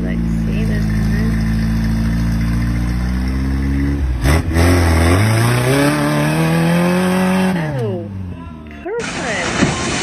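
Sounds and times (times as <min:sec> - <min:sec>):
buggy engine revving hard: 0:00.0 - 0:08.1.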